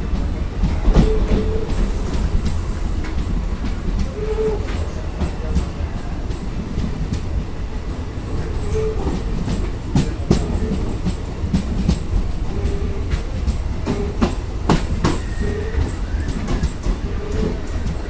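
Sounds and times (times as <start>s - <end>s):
train rumbling on rails: 0.0s - 18.0s
train wheel clacks: 0.0s - 18.0s.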